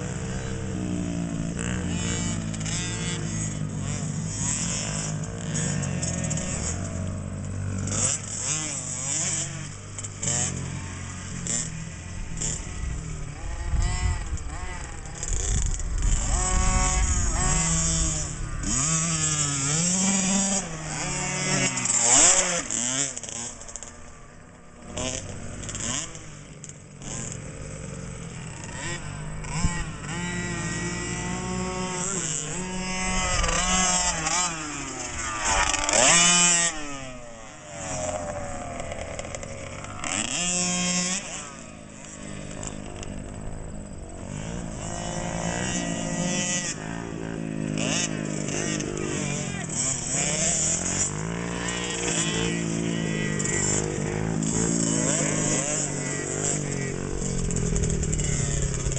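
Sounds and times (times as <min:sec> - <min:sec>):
motocross bikes revving: 0:00.0 - 0:58.9.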